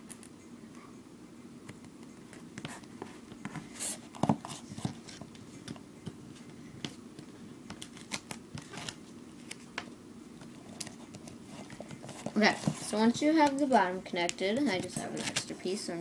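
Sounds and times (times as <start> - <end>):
duct tape rustling: 2.3 - 15.8.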